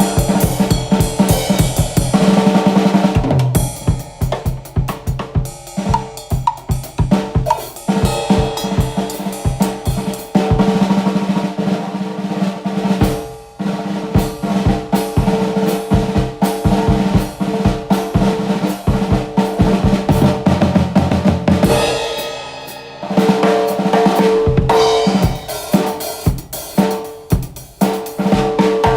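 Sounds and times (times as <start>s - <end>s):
drum kit playing: 0.0s - 28.9s.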